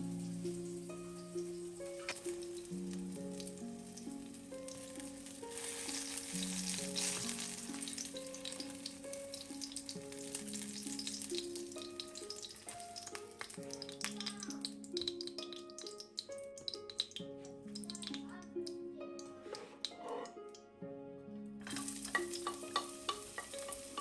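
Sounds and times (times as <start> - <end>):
frying sizzle in oil: 0.0 - 18.8, 21.6 - 24.0
soft background music: 0.0 - 24.0.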